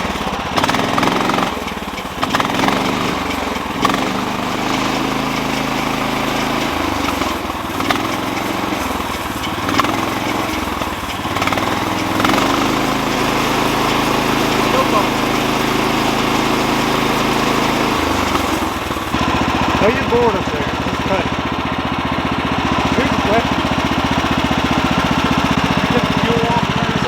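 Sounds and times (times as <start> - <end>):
small gasoline engine running: 0.0 - 27.0.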